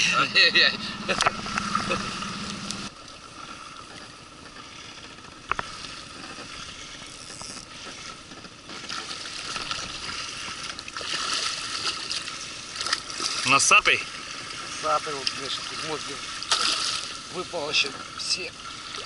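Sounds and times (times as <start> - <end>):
river current rushing and splashing: 0.0 - 8.2, 8.8 - 19.0.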